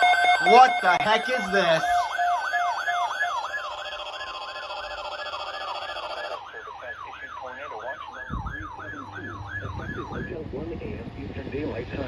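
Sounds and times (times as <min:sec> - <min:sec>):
electronic yelp siren: 0:00.0 - 0:10.8.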